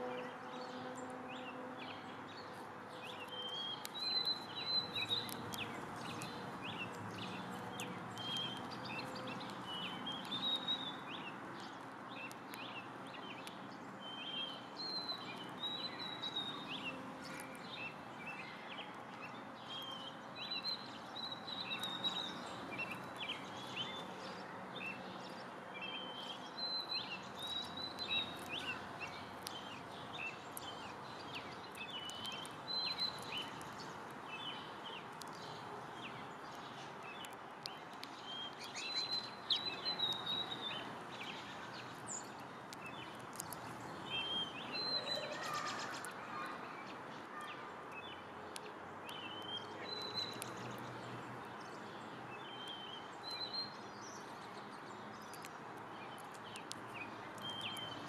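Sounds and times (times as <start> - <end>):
small songbirds chirping: 0.0 - 58.0
steady background noise: 0.0 - 58.0.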